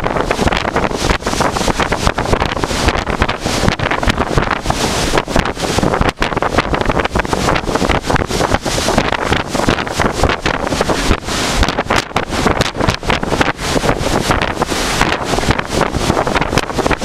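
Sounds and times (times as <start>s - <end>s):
rough seas churning: 0.0s - 17.0s
wind buffeting microphone: 0.0s - 17.0s.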